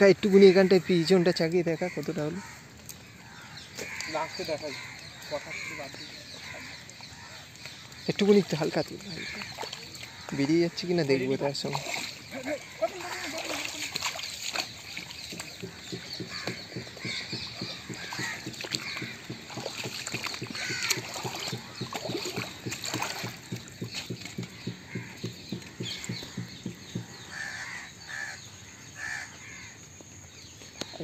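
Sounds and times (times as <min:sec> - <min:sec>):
crows cawing: 0:00.3 - 0:29.8.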